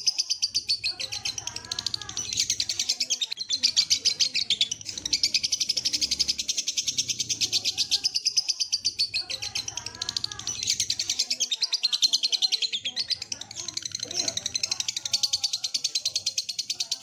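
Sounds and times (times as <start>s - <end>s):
lovebird chattering trill: 0.0s - 17.0s.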